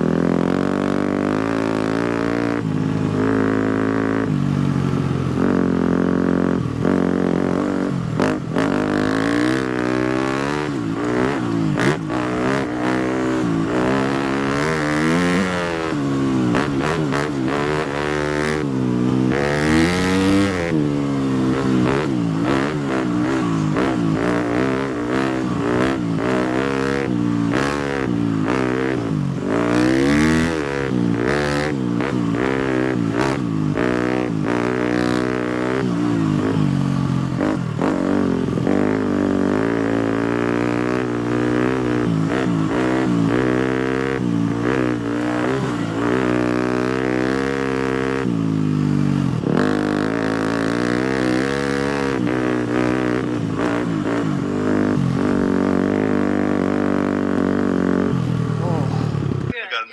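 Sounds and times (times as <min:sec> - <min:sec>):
motocross bike engine revving: 0:00.0 - 0:59.7.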